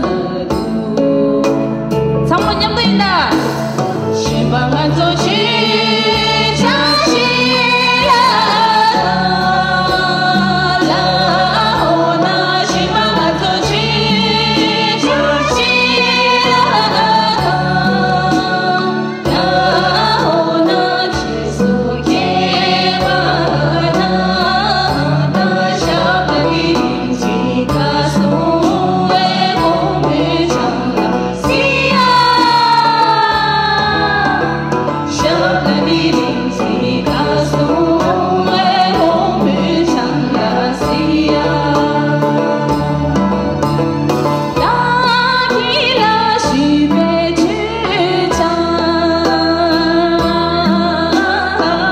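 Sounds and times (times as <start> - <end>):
amplified instrumental accompaniment: 0.0 - 51.9
woman singing into microphone: 0.0 - 51.9.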